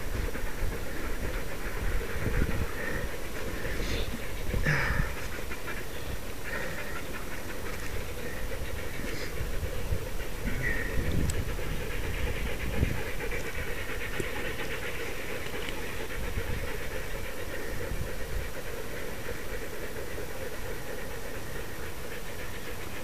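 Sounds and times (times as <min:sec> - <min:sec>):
dogs panting: 0:00.0 - 0:23.0.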